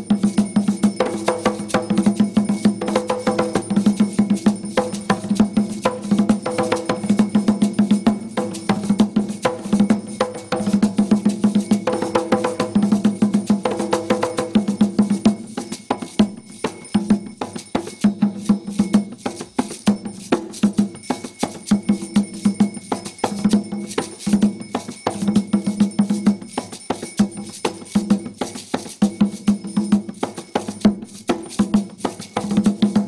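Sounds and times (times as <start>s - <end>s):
hand drums playing: 0.0s - 33.0s.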